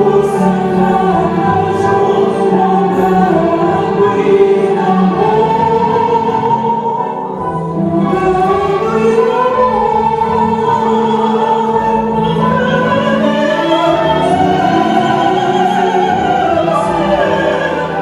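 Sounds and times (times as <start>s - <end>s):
two women singing: 0.0s - 18.0s.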